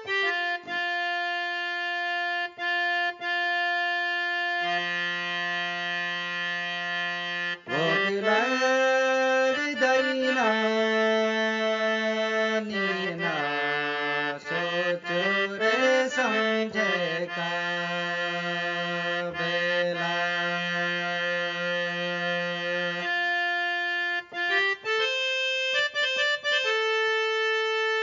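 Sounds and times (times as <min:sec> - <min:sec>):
harmonium folk tune: 0:00.0 - 0:28.0.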